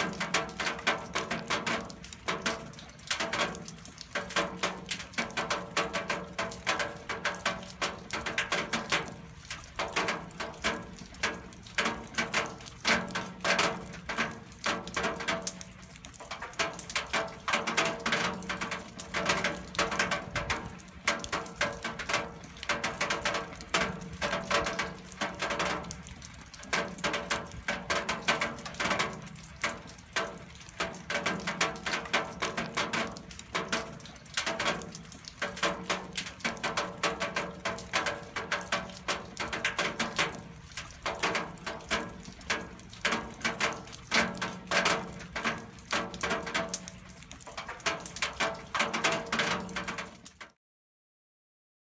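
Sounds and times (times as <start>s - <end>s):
rain patter on metal: 0.0s - 50.6s.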